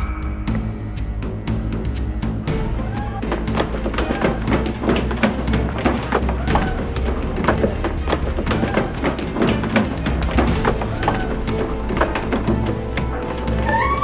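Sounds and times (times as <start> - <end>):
background music with bass: 0.0 - 14.0
knocks and thuds: 1.8 - 14.0.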